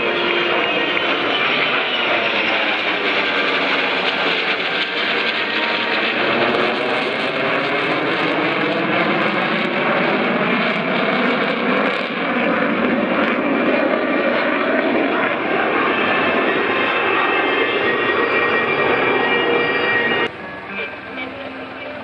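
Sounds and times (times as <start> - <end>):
jet aircraft passing overhead: 0.0 - 22.0.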